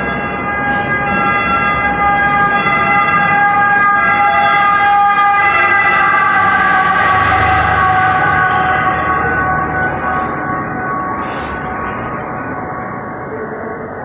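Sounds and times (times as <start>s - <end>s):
train wheels screeching on rails: 0.0s - 13.9s
rumbling rail noise: 0.0s - 14.0s.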